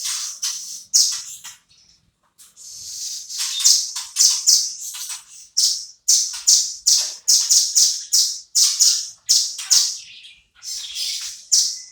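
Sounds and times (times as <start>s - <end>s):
bird harsh chattering calls: 0.0s - 1.6s, 2.5s - 11.9s.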